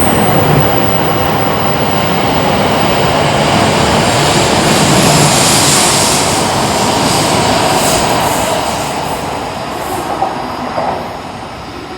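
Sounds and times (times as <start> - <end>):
train passing on tracks: 0.0 - 11.9.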